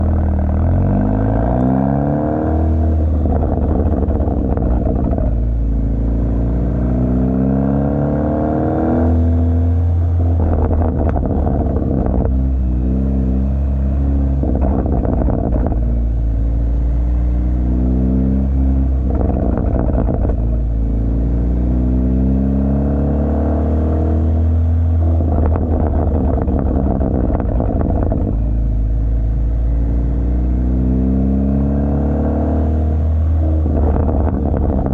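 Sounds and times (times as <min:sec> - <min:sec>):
car exhaust rumbling: 0:00.0 - 0:34.9.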